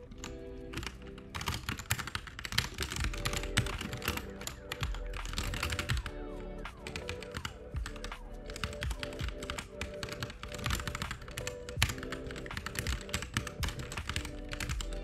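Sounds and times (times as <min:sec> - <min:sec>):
background music: 0:00.0 - 0:15.0
keyboard key taps: 0:00.2 - 0:06.1, 0:06.7 - 0:15.0.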